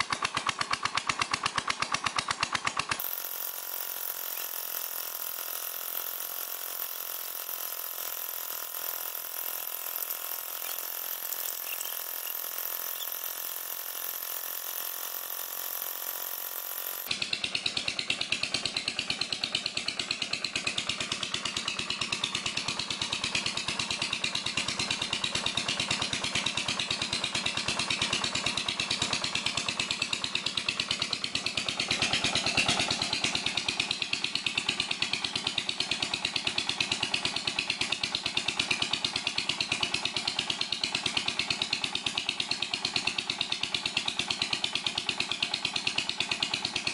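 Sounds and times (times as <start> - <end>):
rapid engine knocking: 0.0 - 46.9.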